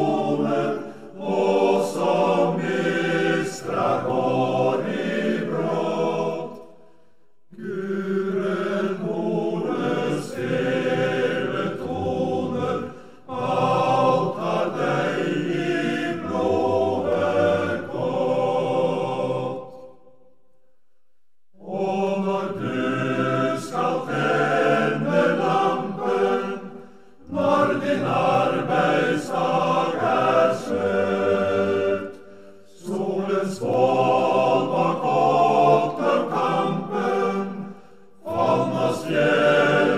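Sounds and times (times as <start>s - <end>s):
chant-like singing: 0.0s - 20.4s, 21.6s - 39.9s.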